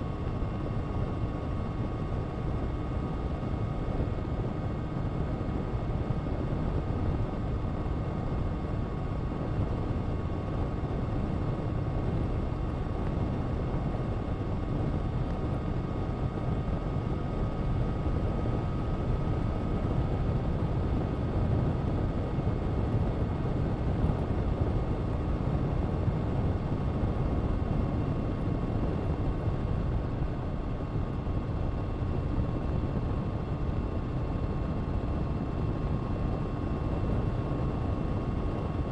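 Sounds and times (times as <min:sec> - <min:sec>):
low wind rush: 0:00.0 - 0:38.9.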